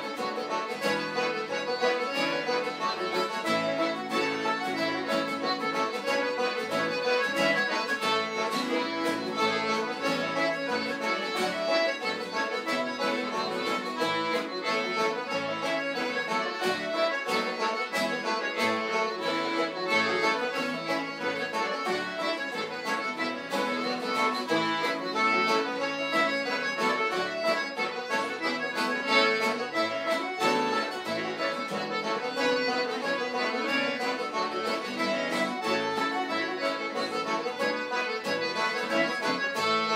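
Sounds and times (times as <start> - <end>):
accordion playing tune: 0.0 - 39.9
traditional group music: 0.0 - 39.9.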